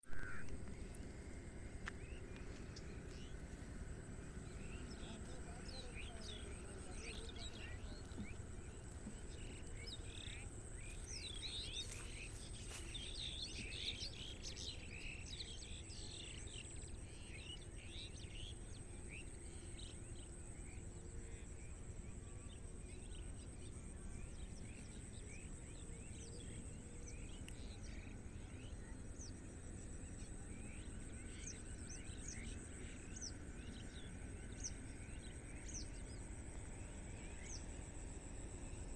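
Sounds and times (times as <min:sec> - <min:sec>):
low background rumble: 0:00.0 - 0:38.9
small birds chirping: 0:00.1 - 0:38.9.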